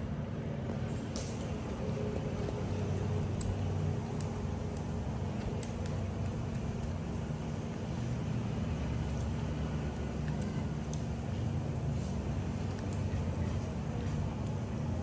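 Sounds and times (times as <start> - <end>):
kitten lapping milk: 0.0 - 15.0
steady low hum: 0.0 - 15.0.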